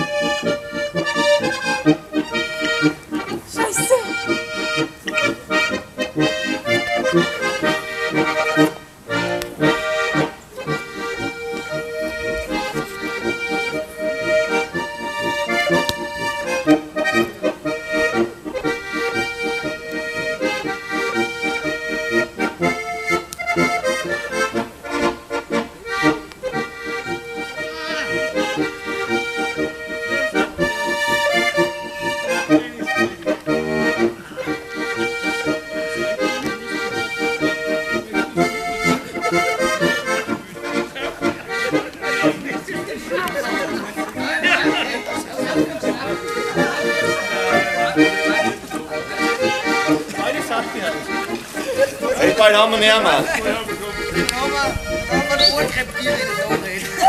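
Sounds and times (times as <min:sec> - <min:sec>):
accordion folk tune: 0:00.0 - 0:57.0.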